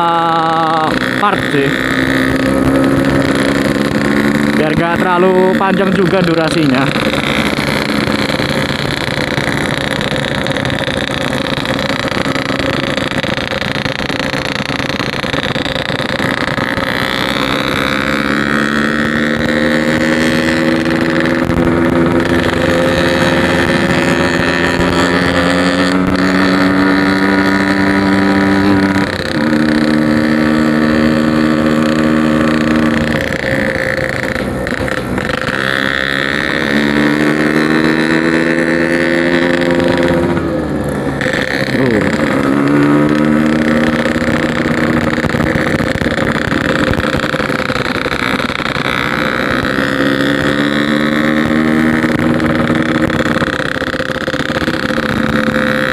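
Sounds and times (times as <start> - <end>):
two-stroke motorcycle engine running: 0.0 - 55.9.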